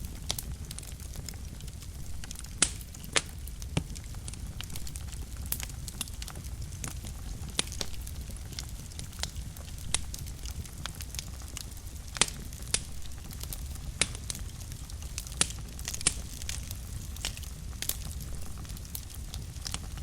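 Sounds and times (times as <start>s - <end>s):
fire crackles and pops: 0.0s - 20.0s
wood fire burning: 0.0s - 20.0s.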